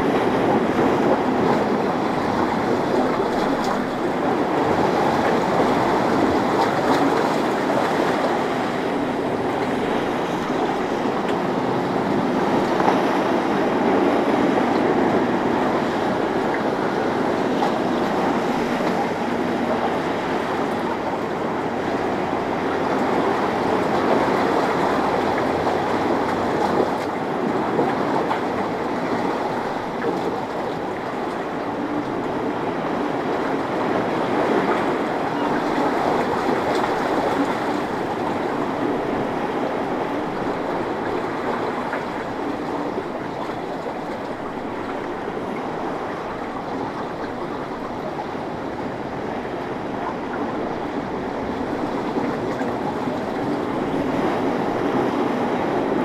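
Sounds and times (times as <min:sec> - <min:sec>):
boat engines running: 0:00.0 - 0:56.0
rush of waves: 0:00.0 - 0:56.0
wind: 0:00.0 - 0:56.0.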